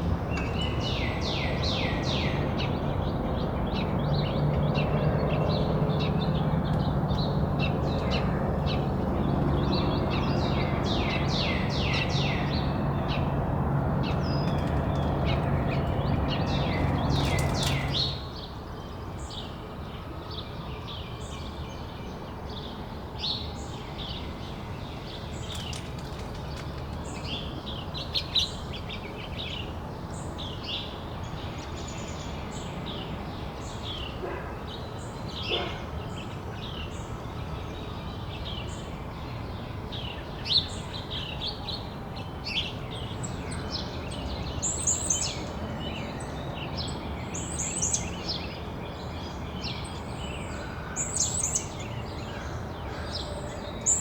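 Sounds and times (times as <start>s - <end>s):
small songbirds chirping: 0.2s - 13.4s, 14.0s - 54.0s.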